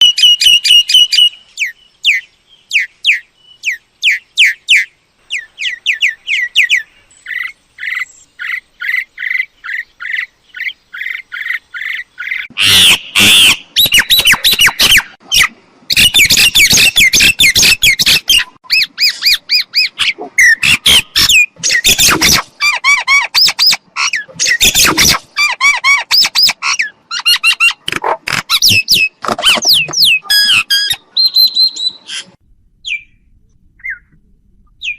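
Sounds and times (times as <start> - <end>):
bird harsh calls and squawks: 0.0 - 33.2
bird chirping: 0.0 - 34.9.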